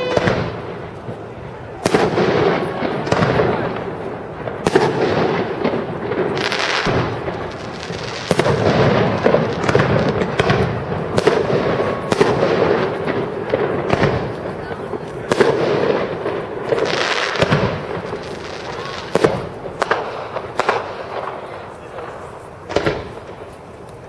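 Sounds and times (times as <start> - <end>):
firework shells bursting: 1.8 - 21.5.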